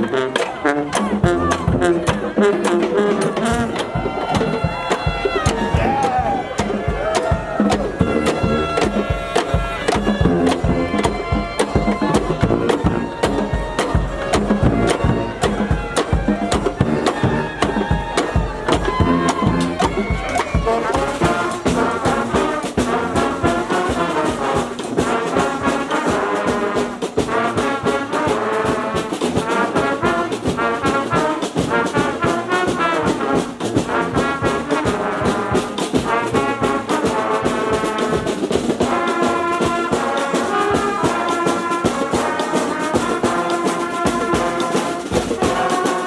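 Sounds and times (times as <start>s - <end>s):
brass band playing: 0.0s - 46.0s.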